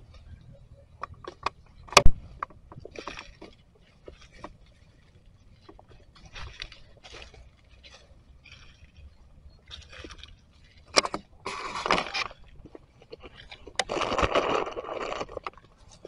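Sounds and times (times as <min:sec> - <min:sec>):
dry leaves crackling underfoot: 0:02.8 - 0:16.0.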